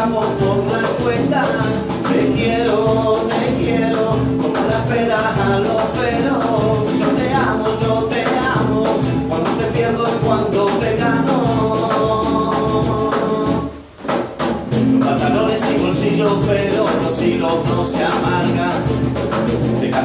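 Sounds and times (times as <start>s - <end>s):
nylon-string guitar strummed: 0.0s - 20.0s
second guitar: 0.0s - 20.0s.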